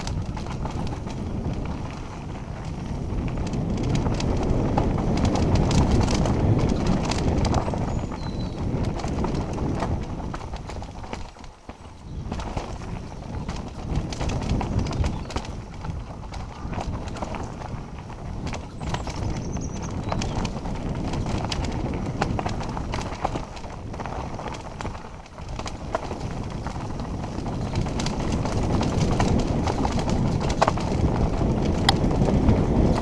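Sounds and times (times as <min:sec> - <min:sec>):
bike rattling and clattering: 0:00.0 - 0:33.0
wind on microphone: 0:00.0 - 0:33.0.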